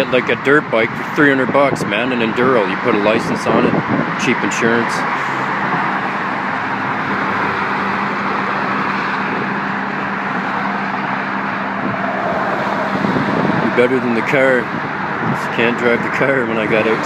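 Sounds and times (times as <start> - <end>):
low engine hum: 0.0 - 17.0
tyre and road noise: 0.0 - 17.0.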